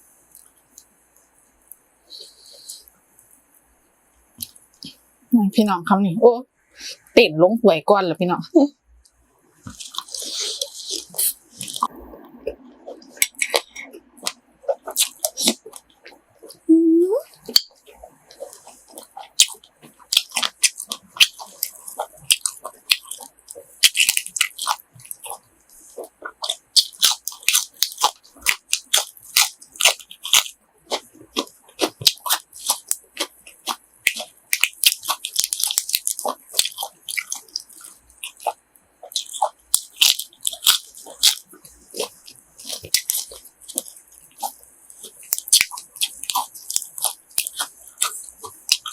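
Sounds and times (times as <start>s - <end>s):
chewing crispy food: 4.4s - 5.0s, 9.0s - 48.9s.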